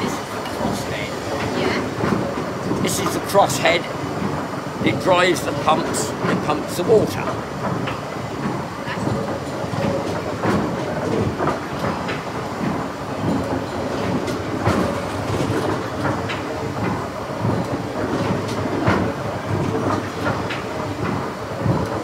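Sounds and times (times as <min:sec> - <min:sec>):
steam engine clattering: 0:00.0 - 0:22.0.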